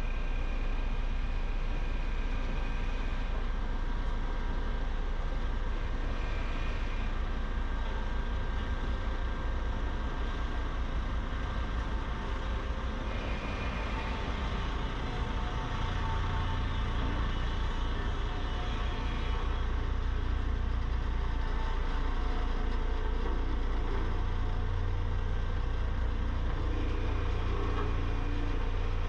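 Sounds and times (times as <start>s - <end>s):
diesel engine rumbling: 0.0s - 29.0s
faint high whine: 0.0s - 29.0s.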